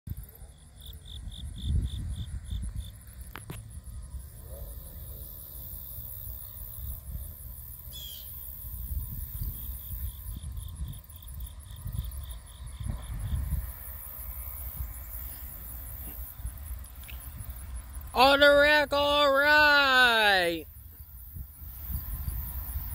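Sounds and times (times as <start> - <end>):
insects chirping: 0.1 - 19.2, 19.8 - 22.9.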